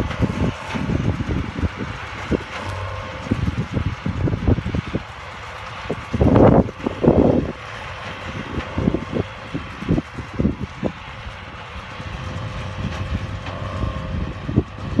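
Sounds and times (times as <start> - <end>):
distant tractors droning: 0.0 - 15.0.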